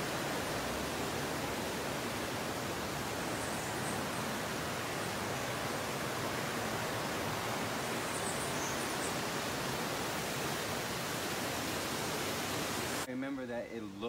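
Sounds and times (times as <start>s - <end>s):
rushing water: 0.0s - 13.1s.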